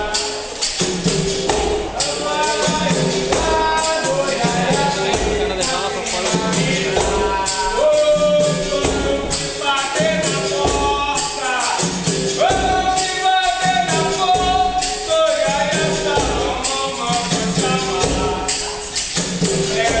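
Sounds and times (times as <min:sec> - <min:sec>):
tambourine jingling: 0:00.0 - 0:20.0
voices singing: 0:00.0 - 0:20.0
low drum beats: 0:00.8 - 0:18.8.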